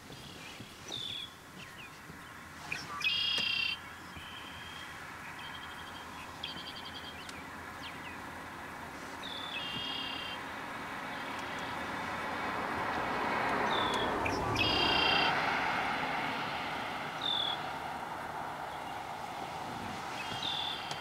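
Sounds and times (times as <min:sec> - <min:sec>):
songbirds calling: 0:00.0 - 0:21.0
steady outdoor hiss: 0:00.0 - 0:21.0.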